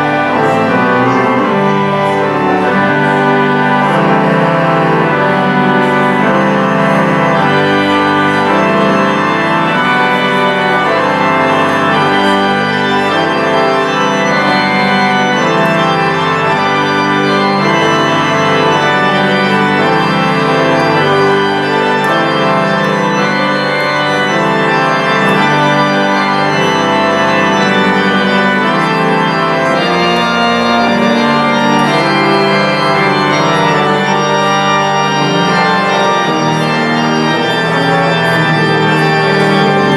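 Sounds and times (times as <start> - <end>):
church organ playing chords: 0.0 - 39.9.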